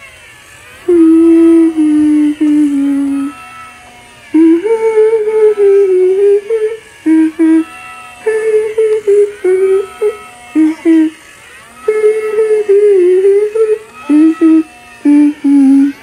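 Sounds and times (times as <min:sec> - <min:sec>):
high wavering singing voice: 0:00.0 - 0:16.0.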